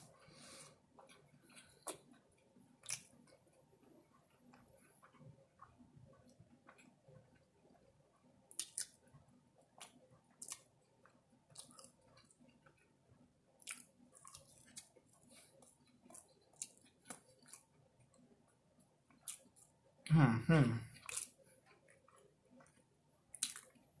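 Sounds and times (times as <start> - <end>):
person chewing food: 0.0 - 20.1, 20.7 - 24.0.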